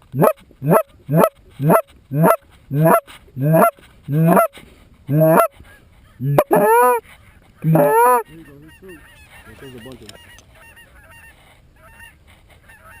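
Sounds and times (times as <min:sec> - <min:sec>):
goose call honks: 0:00.0 - 0:07.0, 0:07.6 - 0:13.0.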